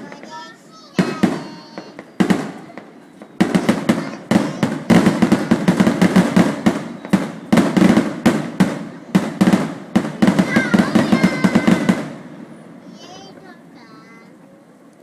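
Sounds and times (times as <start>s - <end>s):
fireworks bursting: 0.0s - 14.4s.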